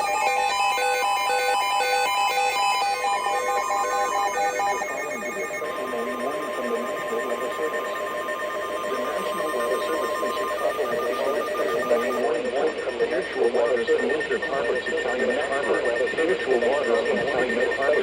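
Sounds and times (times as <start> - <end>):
electronic alert beeps: 0.0 - 18.0
steady alarm tone: 0.0 - 18.0
radio static: 1.4 - 18.0.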